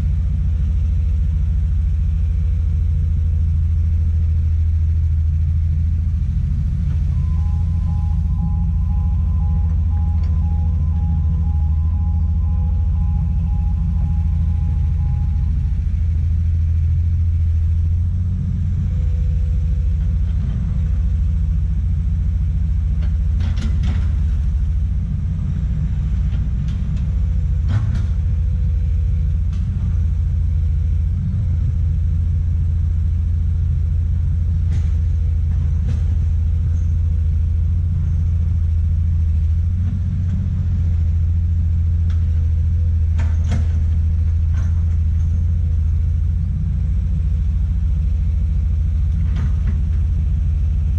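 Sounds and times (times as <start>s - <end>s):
excavator diesel engine rumbling: 0.0s - 50.9s.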